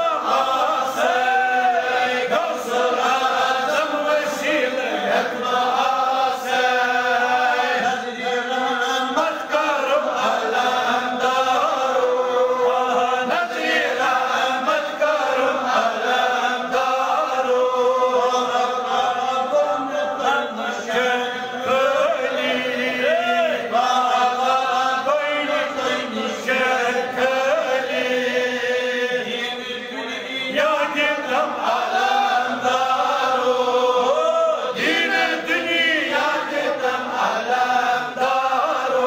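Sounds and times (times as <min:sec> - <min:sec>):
person chanting: 0:00.0 - 0:39.0.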